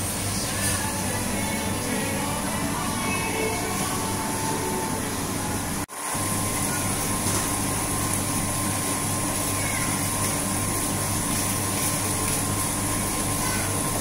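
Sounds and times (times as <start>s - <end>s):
pump humming: 0.0s - 14.0s
water pouring and bubbling: 0.0s - 14.0s.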